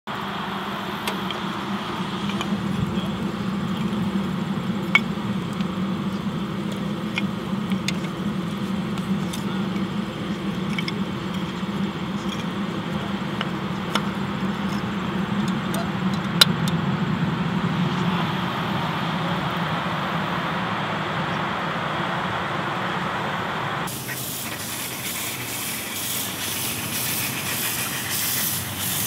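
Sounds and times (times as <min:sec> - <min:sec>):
low hum and hiss: 0:00.1 - 0:29.0.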